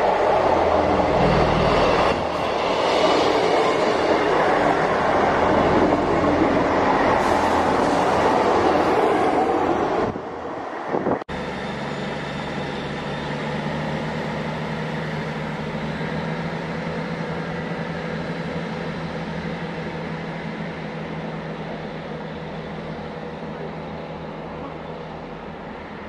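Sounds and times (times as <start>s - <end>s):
diesel engine hum: 0.0s - 26.0s
diesel train passing: 0.0s - 26.0s.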